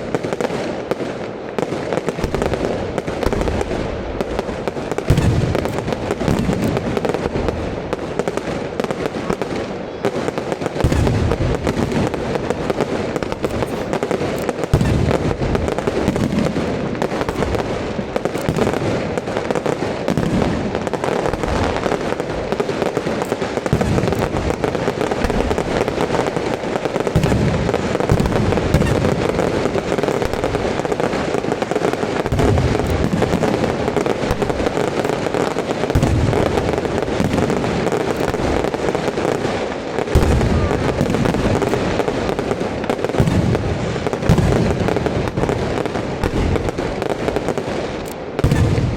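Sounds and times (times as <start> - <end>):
deep fireworks booms: 0.0 - 48.9
fireworks bursting rapidly: 0.0 - 48.9.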